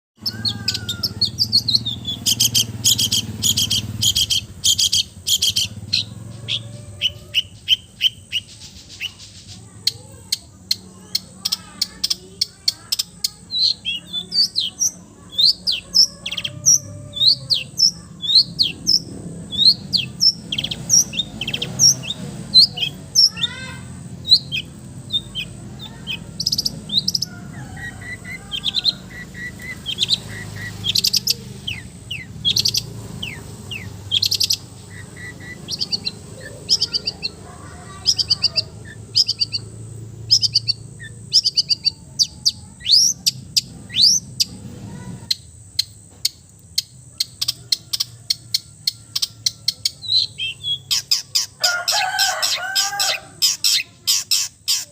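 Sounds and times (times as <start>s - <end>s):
bird singing varied song: 0.2s - 54.9s
low background hum: 0.2s - 54.9s.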